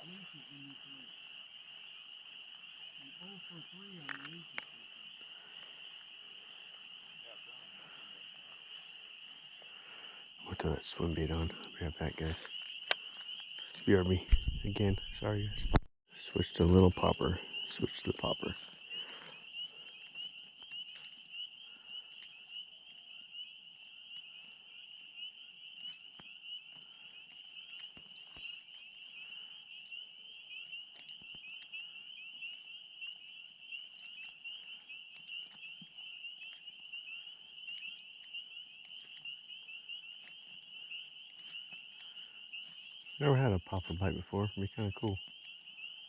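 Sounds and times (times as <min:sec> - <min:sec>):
frogs trilling: 0:00.0 - 0:46.0.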